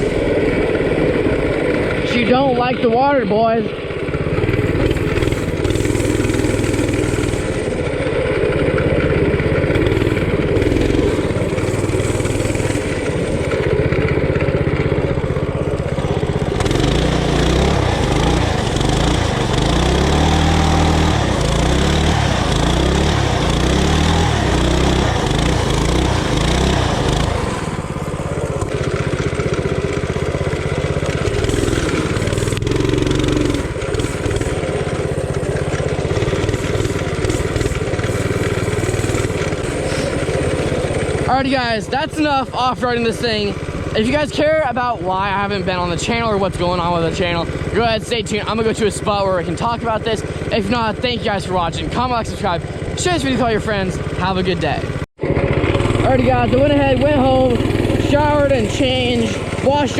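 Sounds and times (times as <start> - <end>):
mini bike engine revving: 0.0 - 59.9.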